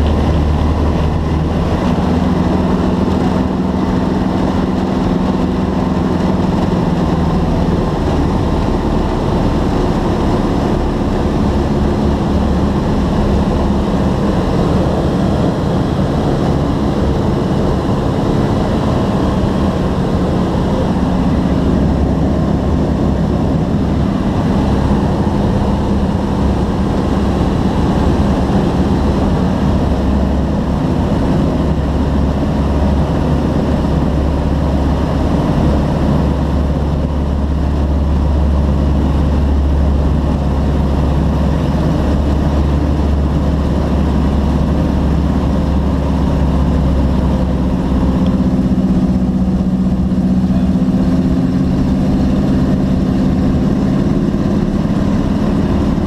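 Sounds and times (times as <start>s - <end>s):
plane engine and propeller drone: 0.0s - 56.0s.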